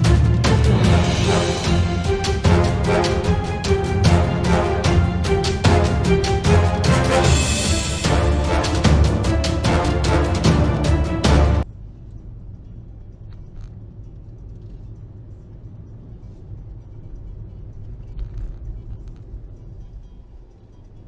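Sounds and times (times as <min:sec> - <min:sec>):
music: 0:00.0 - 0:21.0.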